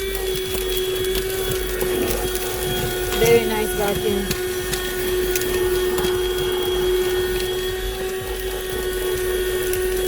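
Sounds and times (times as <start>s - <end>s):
handheld vacuum running: 0.0s - 10.0s.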